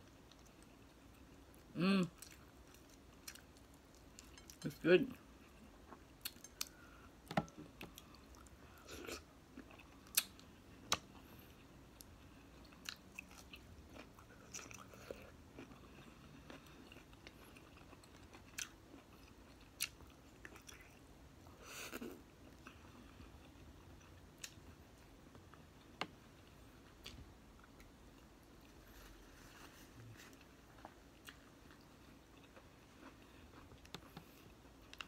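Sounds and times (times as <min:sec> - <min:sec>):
person chewing: 0:00.0 - 0:04.7, 0:05.4 - 0:21.0, 0:21.6 - 0:24.9, 0:30.2 - 0:35.0.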